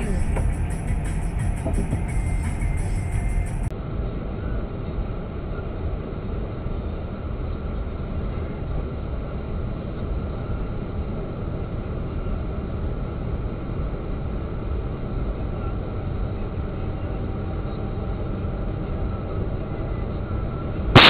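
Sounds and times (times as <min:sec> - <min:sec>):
car cabin road and engine rumble: 0:00.0 - 0:21.0.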